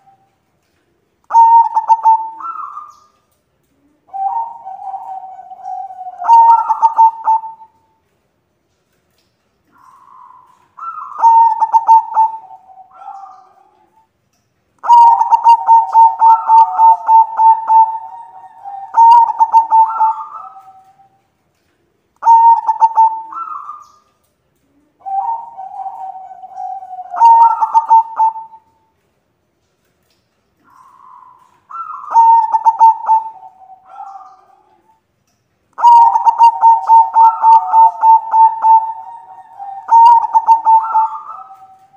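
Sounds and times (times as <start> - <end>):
dove cooing: 0.0 - 8.0, 9.6 - 14.1, 14.8 - 28.9, 30.6 - 35.0, 35.8 - 41.9.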